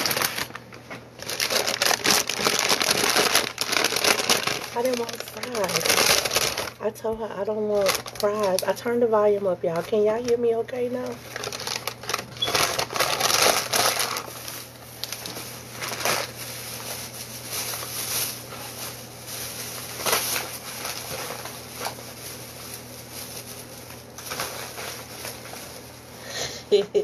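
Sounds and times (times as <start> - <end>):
plastic bag rustling: 0.0 - 26.4.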